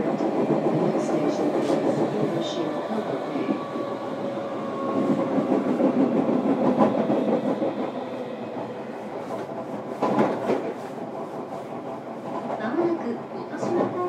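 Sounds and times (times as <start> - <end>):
train wheels rumbling over rails: 0.0 - 14.0.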